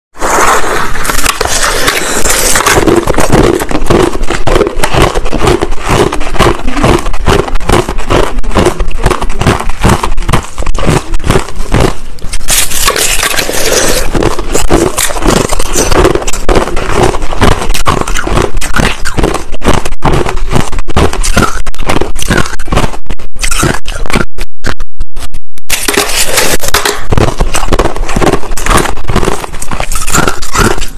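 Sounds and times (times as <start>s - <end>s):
ice being chewed: 0.3s - 22.6s, 25.7s - 30.9s.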